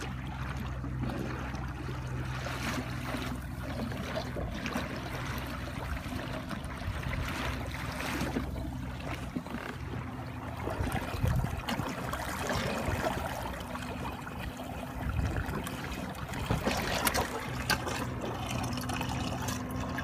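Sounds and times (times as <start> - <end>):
water rushing along kayak hull: 0.0 - 20.0.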